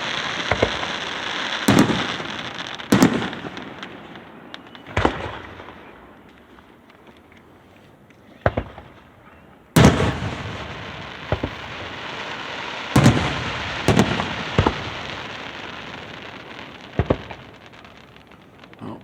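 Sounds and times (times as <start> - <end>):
fireworks booming: 0.0 - 6.3, 9.8 - 19.0
crackling hiss: 0.0 - 19.0.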